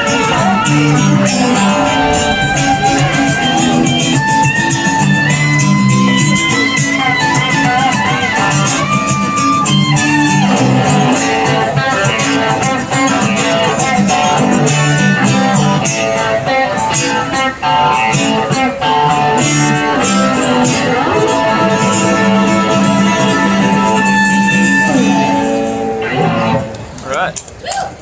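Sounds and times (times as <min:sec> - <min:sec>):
bass guitar: 0:00.0 - 0:16.8, 0:17.4 - 0:27.0
lead guitar bending notes: 0:00.0 - 0:27.0.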